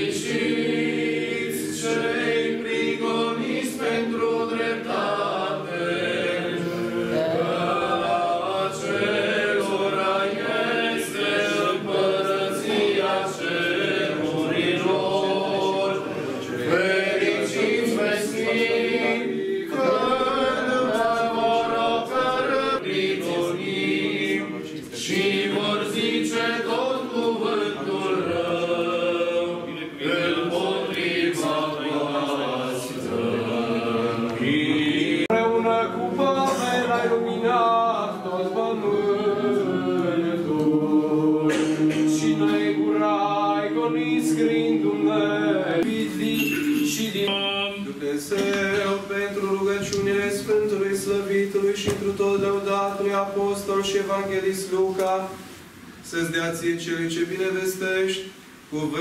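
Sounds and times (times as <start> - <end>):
group chanting a cappella: 0.0 - 59.0.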